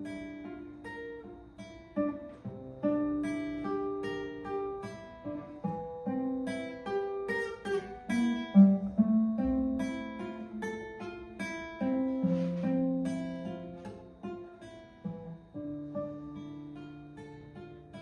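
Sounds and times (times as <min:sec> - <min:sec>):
classical guitar melody: 0:00.0 - 0:18.0.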